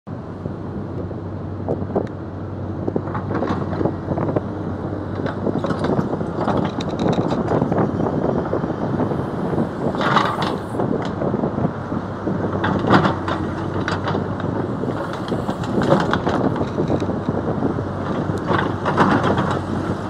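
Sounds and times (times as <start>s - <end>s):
diesel engine humming: 0.1s - 20.0s.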